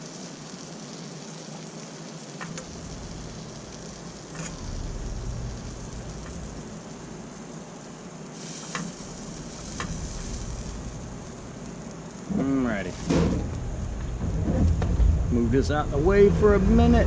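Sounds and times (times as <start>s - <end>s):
seafood sizzling in butter: 0.0s - 14.4s.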